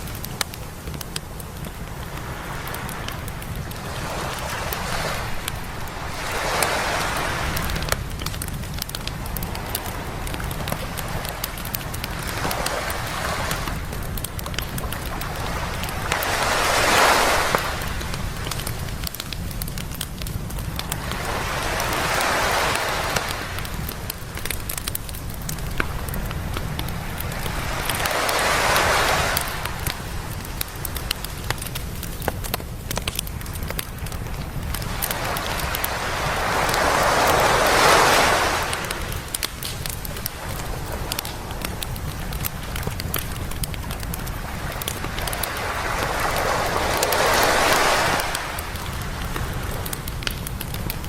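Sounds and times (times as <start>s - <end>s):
campfire crackling and popping: 0.0s - 51.0s
waves washing onto beach: 0.0s - 51.0s.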